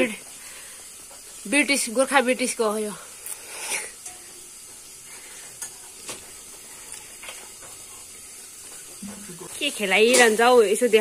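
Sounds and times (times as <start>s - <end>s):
hot oil sizzling in a pan: 0.0s - 11.0s.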